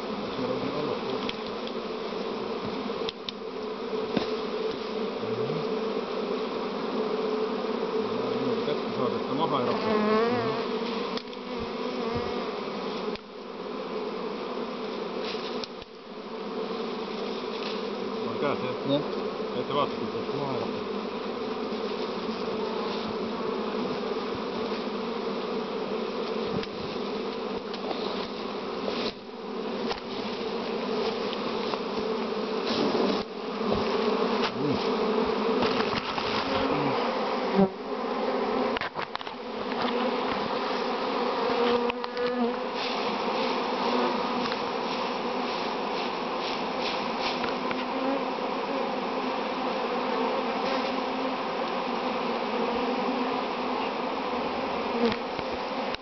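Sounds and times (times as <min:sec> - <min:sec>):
bee swarm buzzing: 0:00.0 - 0:56.0.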